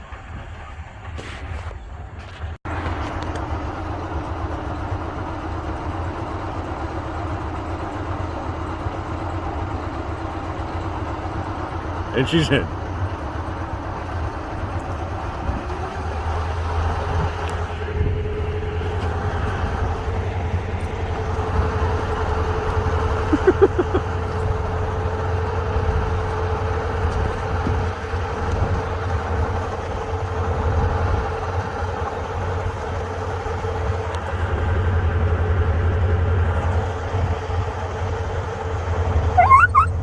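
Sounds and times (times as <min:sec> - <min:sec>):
boat motor rumbling: 0:02.7 - 0:40.0.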